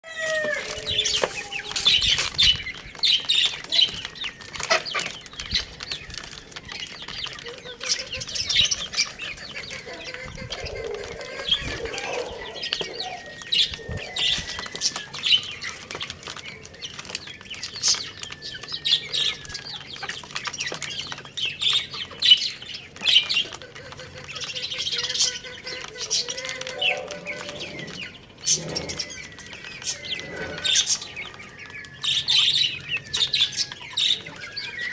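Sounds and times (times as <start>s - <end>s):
chicks chirping: 0.0s - 34.9s.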